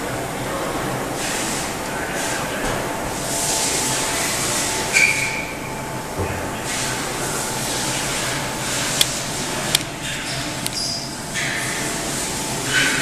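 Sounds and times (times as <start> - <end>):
printing press humming: 0.0 - 13.0.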